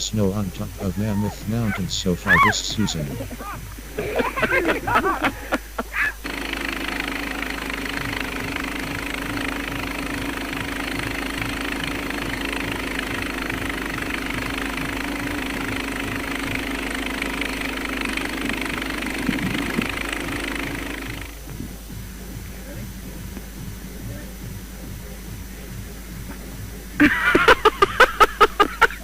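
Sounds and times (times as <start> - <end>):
engine running steadily: 0.0 - 29.0
steady hiss: 0.0 - 29.0.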